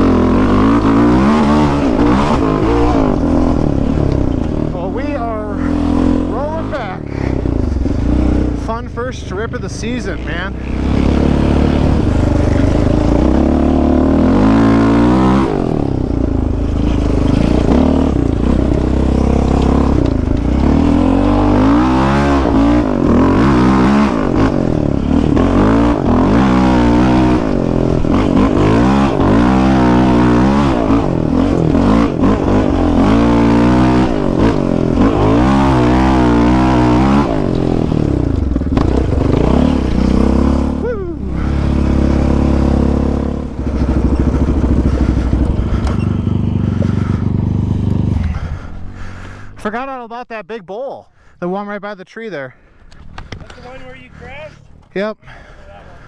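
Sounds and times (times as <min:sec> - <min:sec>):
quad engine revving: 0:00.0 - 0:49.8.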